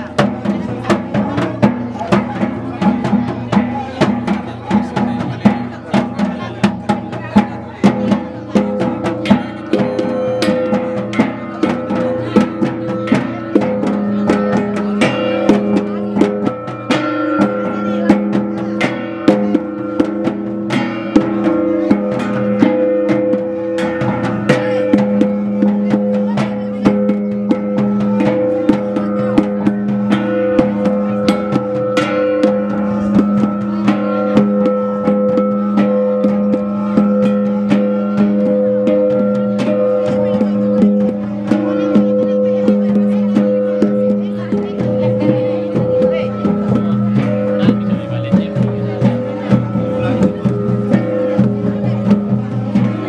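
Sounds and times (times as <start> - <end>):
gongs beaten: 0.0 - 53.0
percussion strokes: 0.0 - 53.0.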